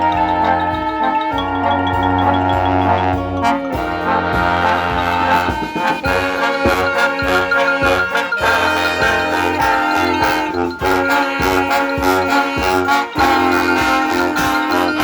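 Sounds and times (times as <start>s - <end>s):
brass band playing upbeat tune: 0.0s - 15.0s.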